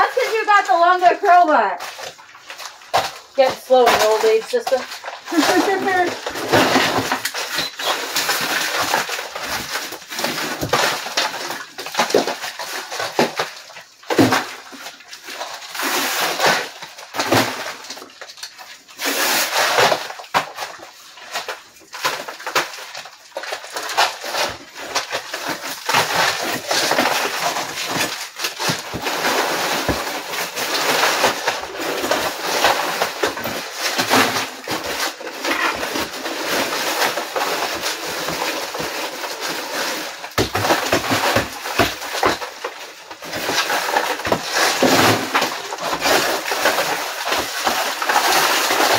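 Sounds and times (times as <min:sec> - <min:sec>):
plaster chunks falling: 0:00.0 - 0:48.9
plaster cracking and scraping off lath: 0:00.0 - 0:48.9.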